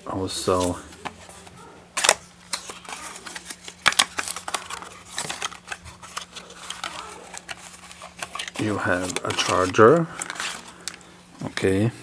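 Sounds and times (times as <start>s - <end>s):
packaging clicks and rustling: 0.5s - 11.8s.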